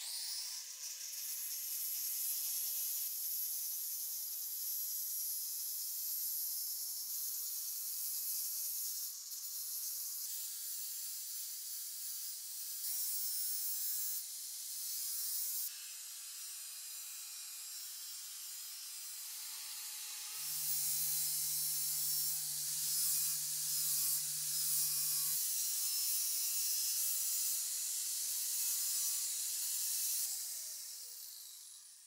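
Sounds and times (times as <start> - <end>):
angle grinder grinding metal: 0.0 - 4.6, 7.4 - 32.0.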